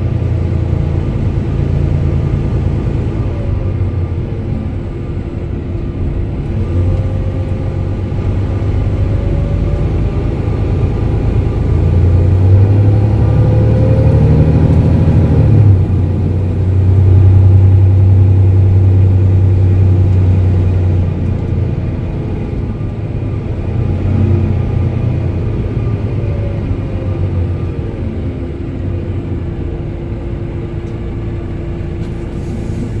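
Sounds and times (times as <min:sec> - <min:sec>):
bus diesel engine droning: 0:00.0 - 0:33.0.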